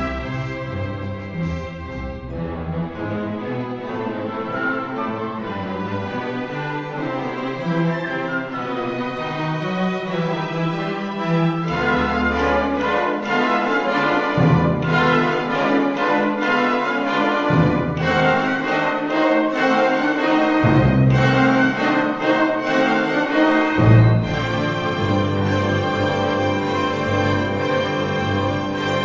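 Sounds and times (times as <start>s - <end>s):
bowed strings: 0.0s - 29.0s.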